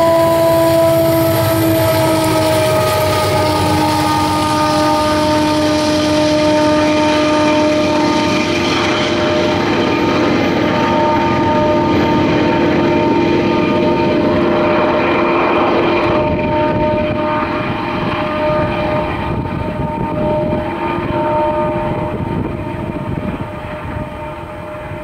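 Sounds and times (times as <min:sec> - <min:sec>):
freight train passing: 0:00.0 - 0:25.0.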